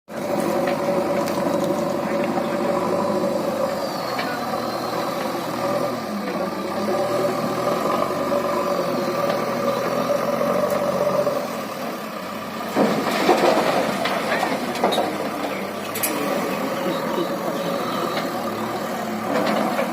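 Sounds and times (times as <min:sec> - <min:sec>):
diesel engine running: 0:00.1 - 0:19.9.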